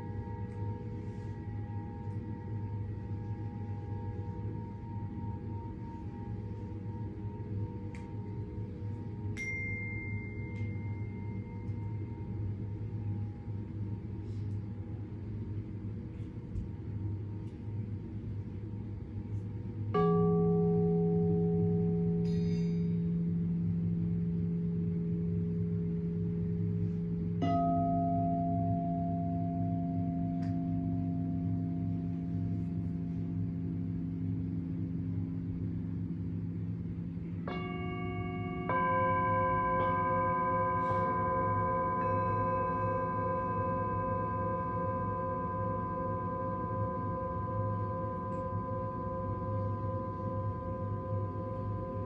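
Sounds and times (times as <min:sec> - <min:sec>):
singing bowl ringing: 0:00.0 - 0:14.9, 0:19.2 - 0:52.0
low hum: 0:00.0 - 0:52.0
steady low drone: 0:00.0 - 0:52.0.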